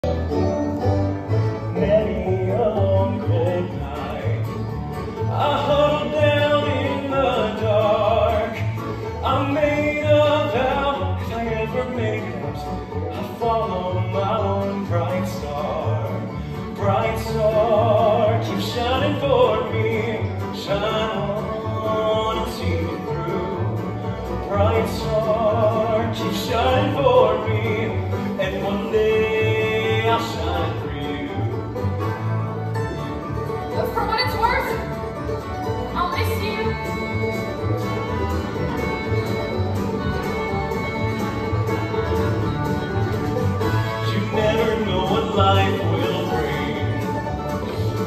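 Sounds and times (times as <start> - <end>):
bluegrass band playing: 0.0 - 48.0
steady bass line: 0.0 - 48.0.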